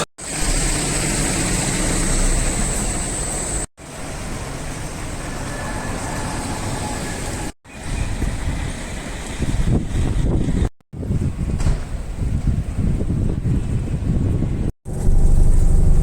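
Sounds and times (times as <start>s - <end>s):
vehicle rumbling: 0.0s - 16.0s.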